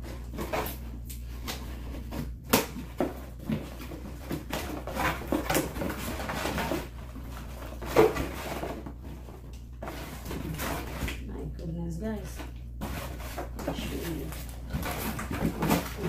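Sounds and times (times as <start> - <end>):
cardboard flaps scraping: 0.0 - 11.2, 12.4 - 16.0.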